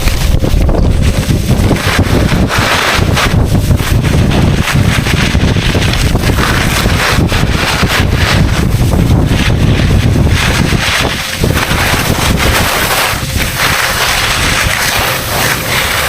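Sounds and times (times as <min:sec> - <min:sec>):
ski edges scraping snow: 0:00.0 - 0:16.0
wind buffeting microphone: 0:00.0 - 0:16.0.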